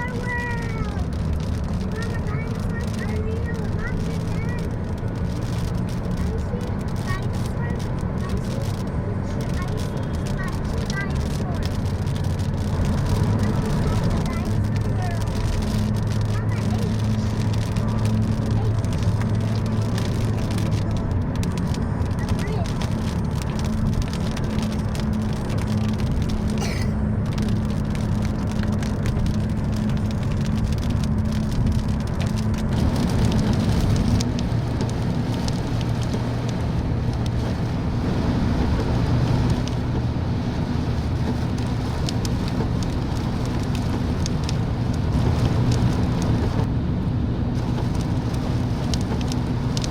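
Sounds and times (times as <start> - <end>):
heavy rain falling: 0.0 - 49.9
vehicle running hum: 0.0 - 49.9.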